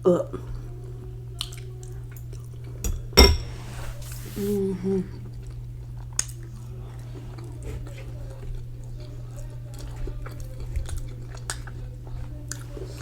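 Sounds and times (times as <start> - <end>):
steady low hum: 0.0 - 13.0
chewing noodles: 0.3 - 2.8, 4.0 - 13.0.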